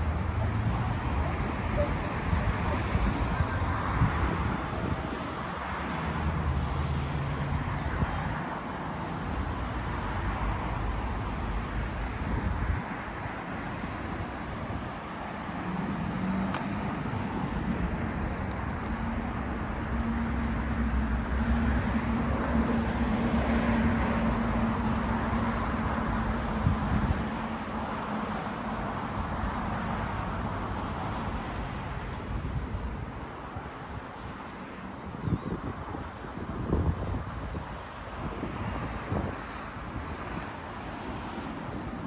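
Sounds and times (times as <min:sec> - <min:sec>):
vehicles driving by: 0:00.0 - 0:42.0.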